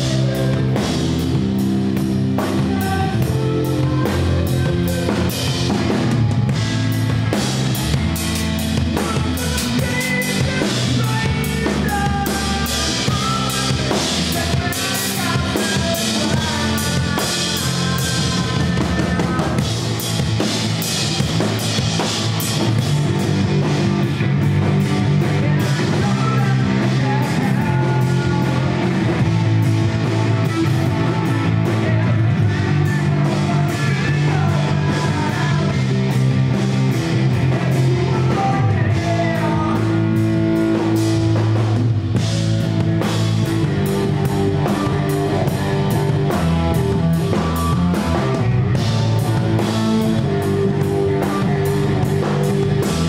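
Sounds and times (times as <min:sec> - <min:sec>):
drum kit: 0:00.0 - 0:53.0
electric bass guitar: 0:00.0 - 0:53.0
electric guitar: 0:00.0 - 0:53.0.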